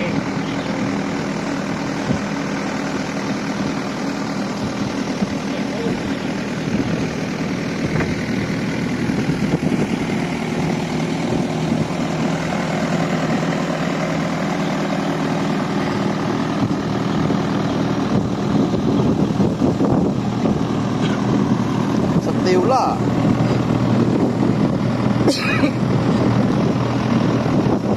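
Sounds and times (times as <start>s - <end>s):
boat engine droning: 0.0s - 27.9s.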